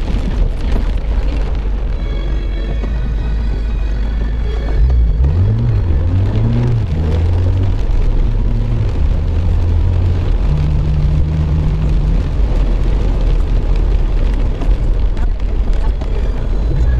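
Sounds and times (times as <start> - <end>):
car engine hum: 0.0 - 16.9
wet tyres and rain hissing: 0.0 - 16.9.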